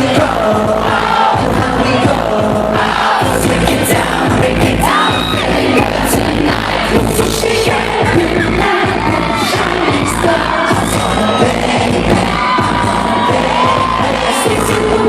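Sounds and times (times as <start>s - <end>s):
crowd screaming and cheering: 0.0s - 15.0s
pop music with heavy beat: 0.0s - 15.0s
sung vocals: 0.0s - 15.0s.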